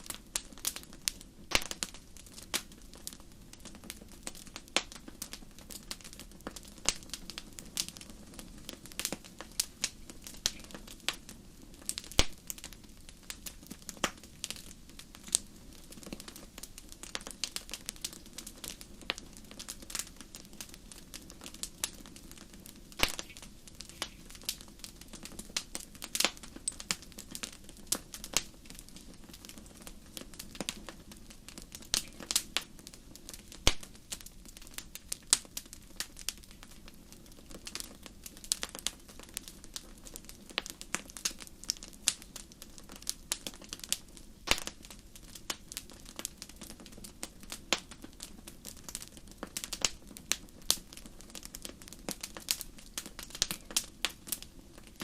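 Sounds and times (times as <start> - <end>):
fireplace fire crackling: 0.0 - 55.0.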